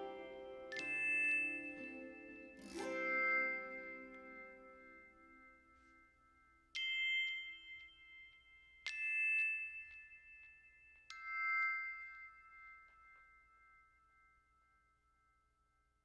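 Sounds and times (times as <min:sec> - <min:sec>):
bell-like struck notes: 0:00.0 - 0:15.3.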